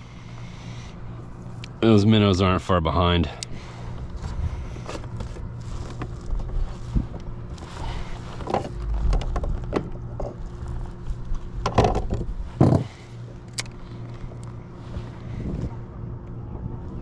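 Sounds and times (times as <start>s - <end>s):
motor humming: 3.3s - 17.0s.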